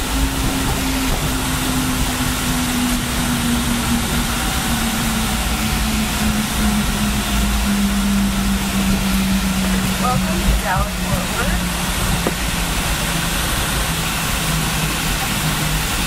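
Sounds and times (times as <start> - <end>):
jet engines spooling down: 0.0 - 16.0
rumble of wheels and airflow: 0.0 - 16.0.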